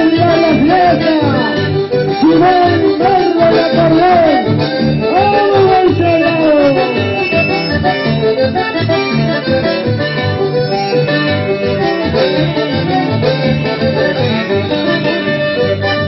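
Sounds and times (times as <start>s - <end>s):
accordion band music: 0.0s - 16.0s.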